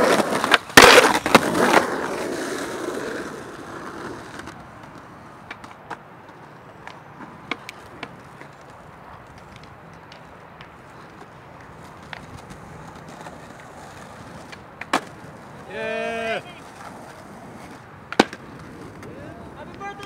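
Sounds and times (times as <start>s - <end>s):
skateboard pop and clacks: 0.0s - 15.6s, 16.2s - 20.0s
skateboard wheels rolling: 0.0s - 20.0s.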